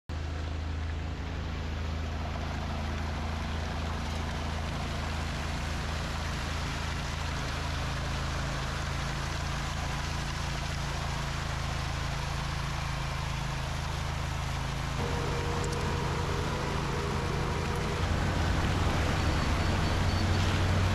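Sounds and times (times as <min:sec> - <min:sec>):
construction machinery engines droning: 0:00.1 - 0:20.9.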